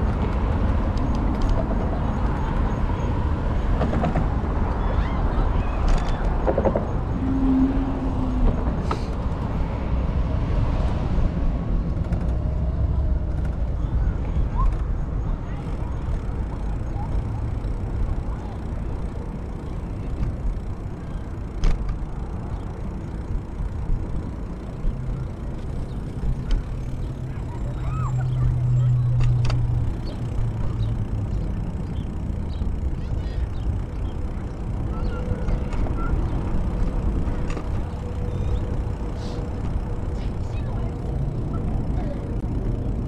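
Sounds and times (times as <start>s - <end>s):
bicycle tyres on pavement: 0.0s - 43.0s.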